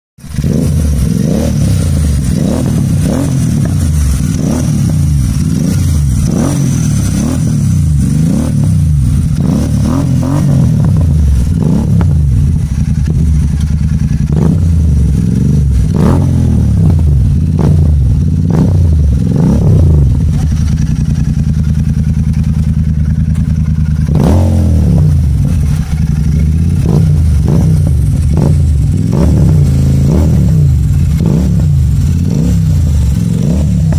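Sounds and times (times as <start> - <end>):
exhaust crackles: 0.2 - 33.9
motorcycle engine revving: 0.2 - 33.9.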